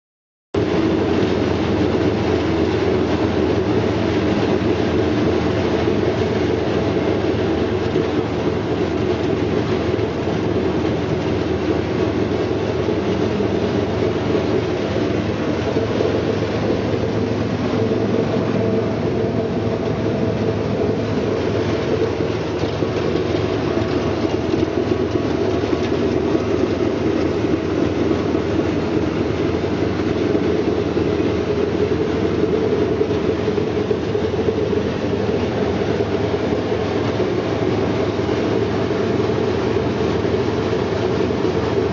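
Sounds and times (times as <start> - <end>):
low motor hum: 0.6 - 41.9.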